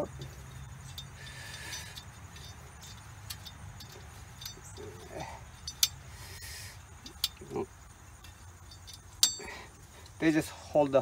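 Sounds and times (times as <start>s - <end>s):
light metal clicks and taps: 0.0s - 6.1s, 7.0s - 10.2s
low background rumble: 0.0s - 10.7s.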